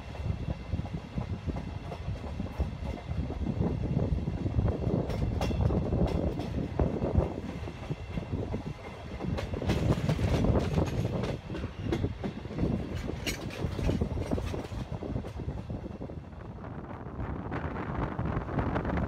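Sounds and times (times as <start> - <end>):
train knocks and rattles: 0.0 - 19.0
train wheels rumbling on rail: 0.0 - 19.0.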